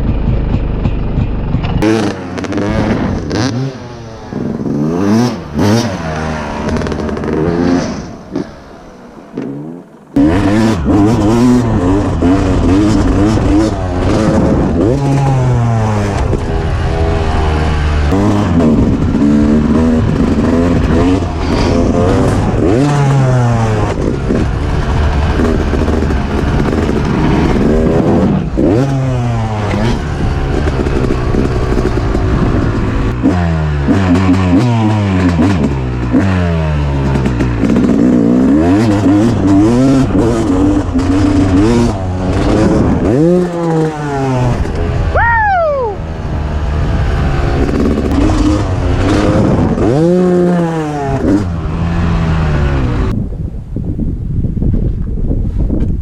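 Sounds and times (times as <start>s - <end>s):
dirt bike engine revving: 0.0s - 53.2s.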